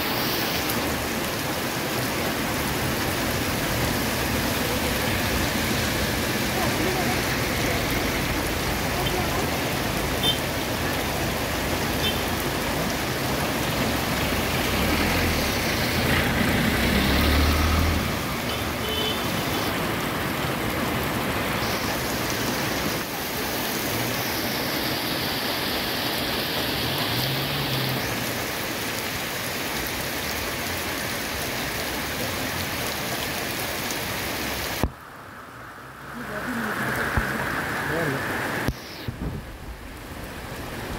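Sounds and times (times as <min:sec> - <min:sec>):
heavy rain on a flooded road: 0:00.0 - 0:40.9
vehicle driving on wet road: 0:00.0 - 0:40.9.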